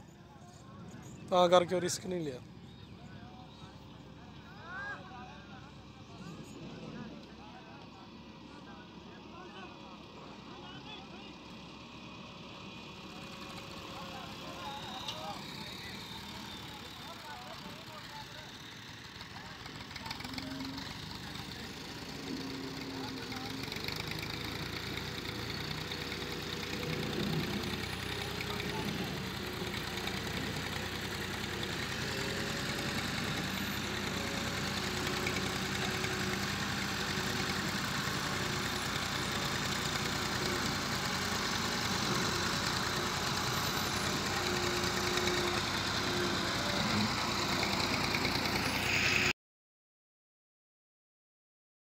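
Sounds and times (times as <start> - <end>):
tractor diesel engine running: 7.2 - 49.3.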